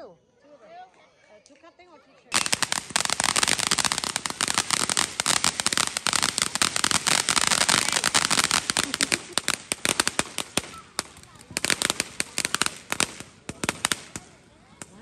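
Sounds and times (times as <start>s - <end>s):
firecrackers popping: 2.3s - 15.0s.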